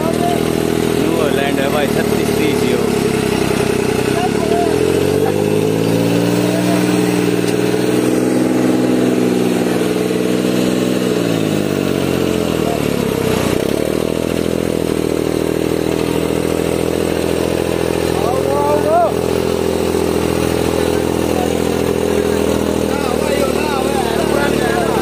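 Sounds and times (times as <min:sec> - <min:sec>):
tractor diesel engine revving: 0:00.0 - 0:25.0.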